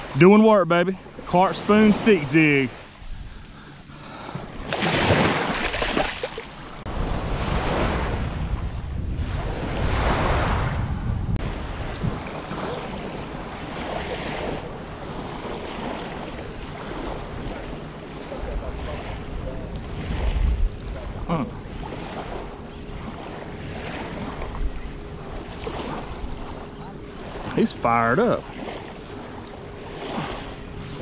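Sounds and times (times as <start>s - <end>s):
ocean surf breaking: 0.0s - 31.0s
wind rumbling on microphone: 2.4s - 27.6s.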